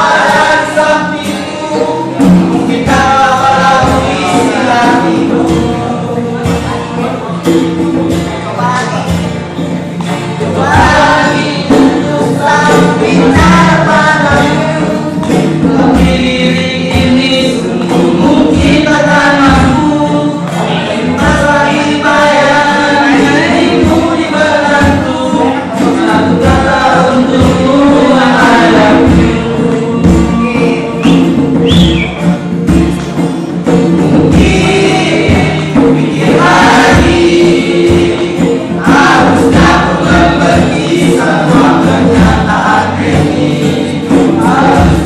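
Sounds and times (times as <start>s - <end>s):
acoustic guitar strumming: 0.0s - 45.0s
group of men singing: 0.0s - 45.0s
hand drum beats: 0.0s - 45.0s.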